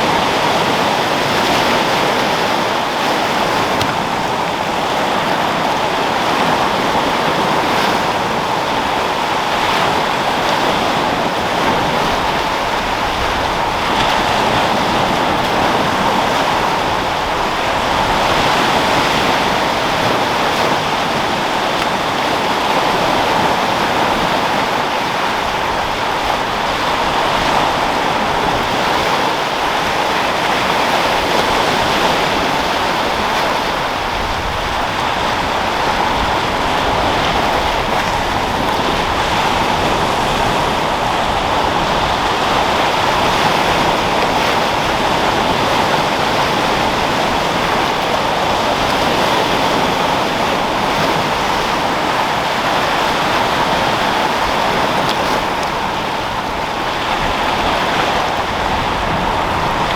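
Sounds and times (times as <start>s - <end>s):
waves breaking on rocks: 0.0s - 59.9s
wind: 0.0s - 59.9s.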